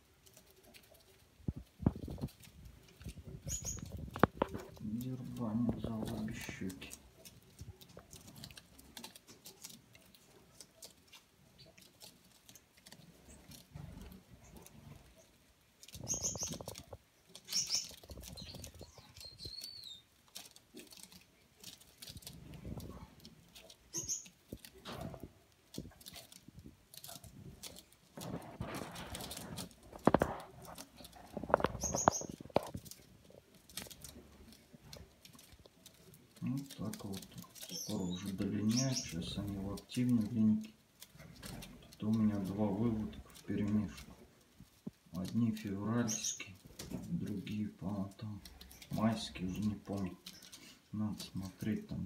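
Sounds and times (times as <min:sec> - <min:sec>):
beaks clicking on seed and paper: 0:00.0 - 0:52.0
birds pecking and scrabbling: 0:00.0 - 0:52.0.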